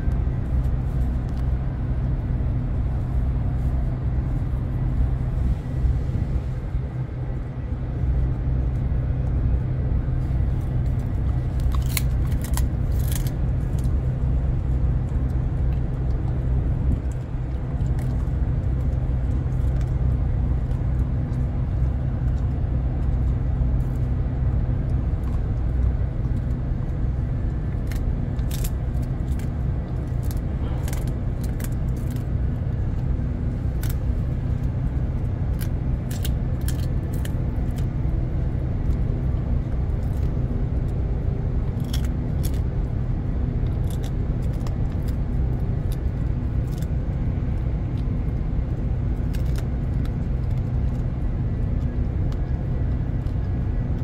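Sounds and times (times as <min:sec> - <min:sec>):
low machinery hum: 0:00.0 - 0:54.0
dog chewing hard treat: 0:10.4 - 0:54.0.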